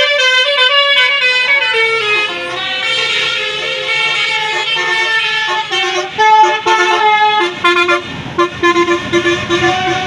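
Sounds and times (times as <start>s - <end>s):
bus rumble: 0.0s - 10.0s
musical air horn playing a tune: 0.0s - 10.0s.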